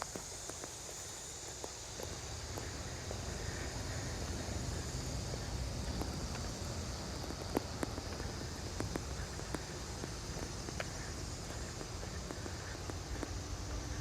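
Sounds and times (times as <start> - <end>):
footsteps crunching on trail: 0.0 - 14.0.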